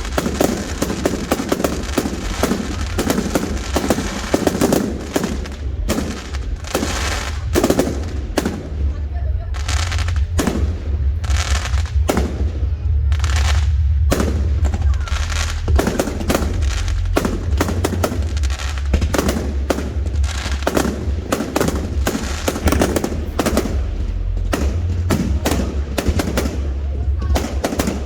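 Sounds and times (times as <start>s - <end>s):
fireworks bangs with crackling tails: 0.0s - 28.0s.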